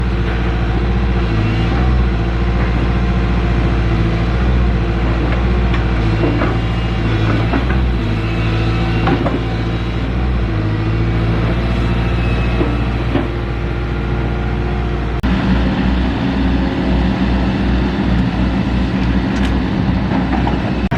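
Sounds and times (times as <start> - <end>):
firewood processing machine humming: 0.0 - 20.9.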